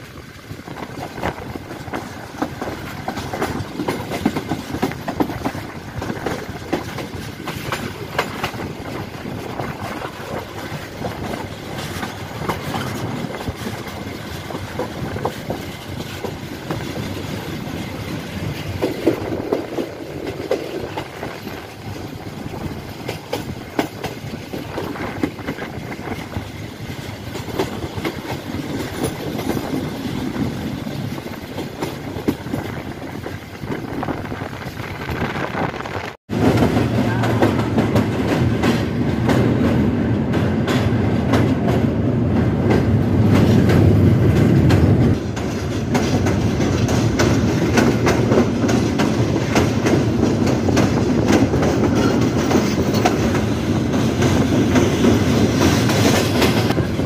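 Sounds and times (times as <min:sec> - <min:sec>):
train wheels clattering: 0:00.0 - 0:57.0.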